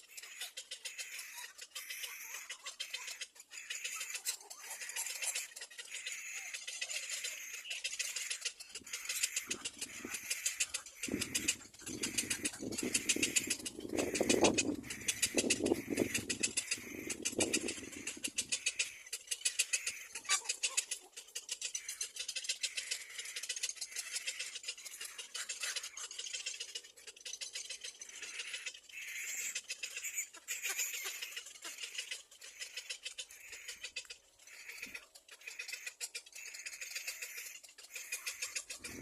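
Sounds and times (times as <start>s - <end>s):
chicks rapid ticking calls: 0.0s - 39.0s.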